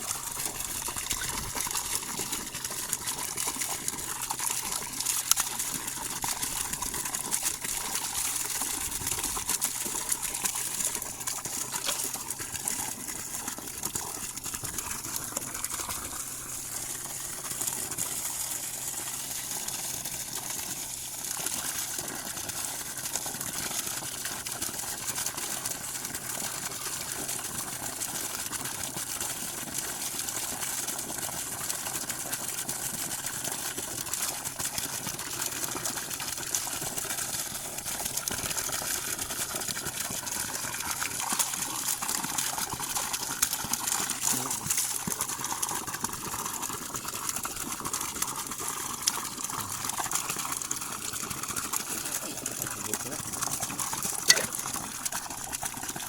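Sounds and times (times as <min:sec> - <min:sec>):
water rushing from pipe: 0:00.0 - 0:56.0.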